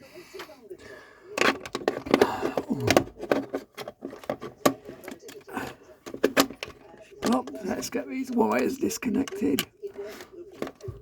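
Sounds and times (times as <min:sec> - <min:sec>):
plastic faceplate clicks and rattles: 0:01.4 - 0:11.0.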